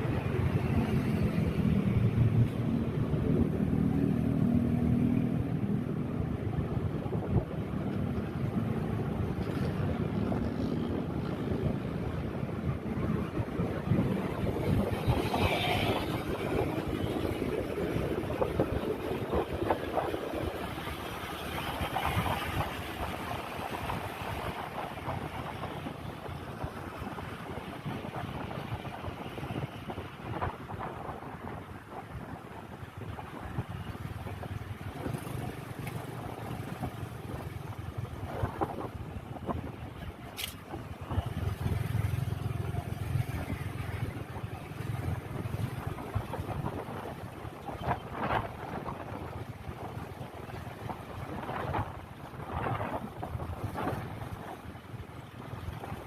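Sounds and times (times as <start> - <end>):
road noise: 0.0 - 56.0
wind rumbling on microphone: 0.0 - 56.0.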